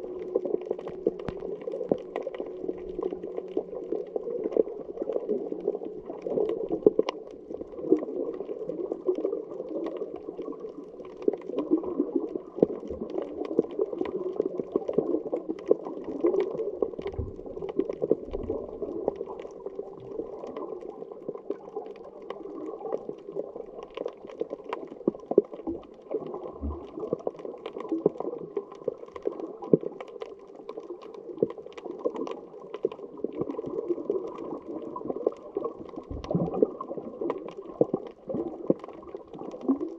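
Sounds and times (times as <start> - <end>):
faint crackling clicks: 0.0 - 39.9
muffled underwater rushing: 0.0 - 39.9.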